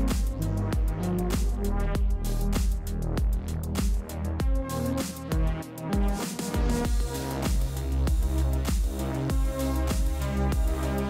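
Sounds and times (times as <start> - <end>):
electronic music with beat: 0.0 - 11.0.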